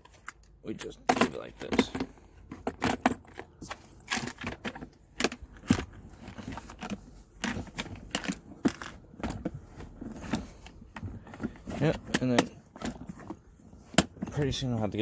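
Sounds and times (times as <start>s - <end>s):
tools clicking and knocking: 0.0s - 14.5s.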